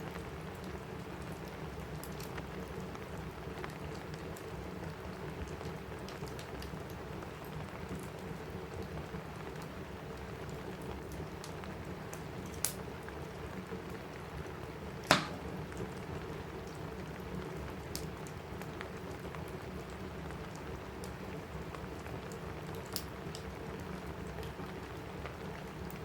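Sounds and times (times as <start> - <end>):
rain falling on a roof: 0.0 - 26.0
wood fire crackling: 0.0 - 26.0.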